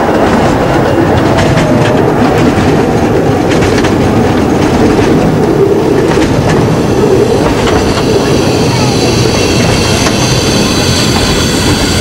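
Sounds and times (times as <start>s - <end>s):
train wheels rumbling: 0.0s - 12.0s
wheels clicking over rail joints: 0.0s - 12.0s.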